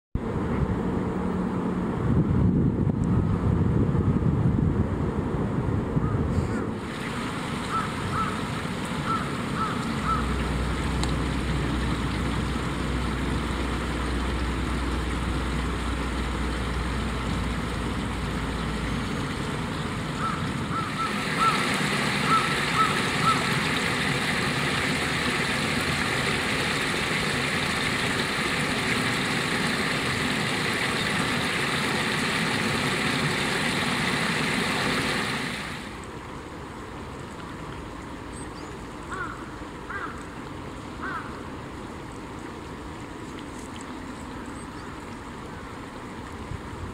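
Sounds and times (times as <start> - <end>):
stream water splashing over rocks: 6.8 - 46.9.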